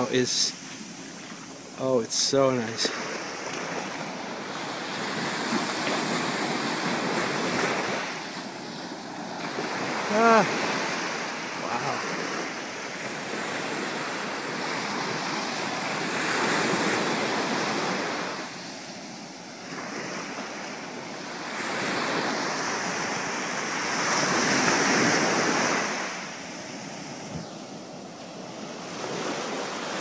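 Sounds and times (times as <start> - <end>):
surf washing on shore: 0.0 - 30.0.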